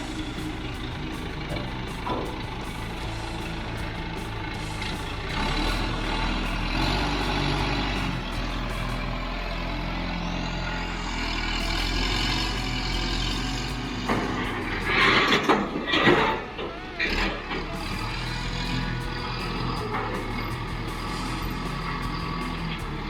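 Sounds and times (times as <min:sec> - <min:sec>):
large engine running: 0:00.0 - 0:23.0.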